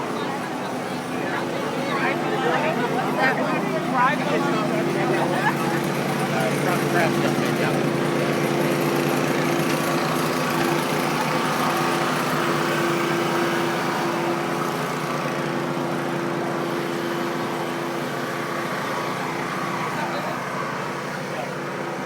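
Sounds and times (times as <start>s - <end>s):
small engine humming: 0.0s - 22.0s.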